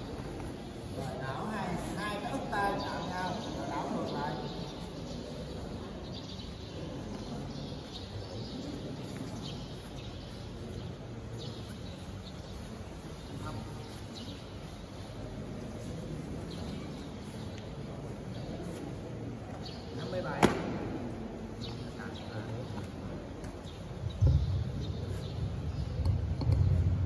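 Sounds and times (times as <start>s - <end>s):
large hall background hum: 0.0s - 27.0s.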